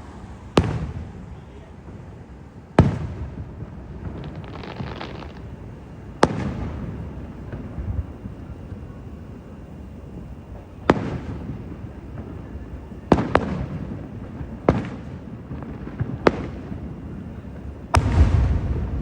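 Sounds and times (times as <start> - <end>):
firework booms with rumbling echo: 0.4 - 19.0.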